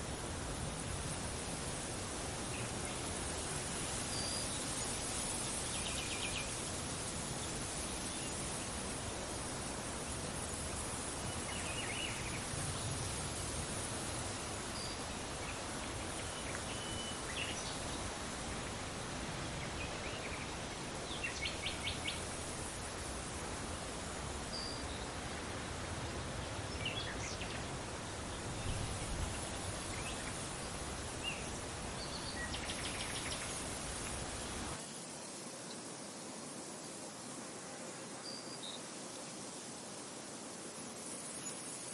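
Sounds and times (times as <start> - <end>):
wind hiss: 0.0 - 41.9.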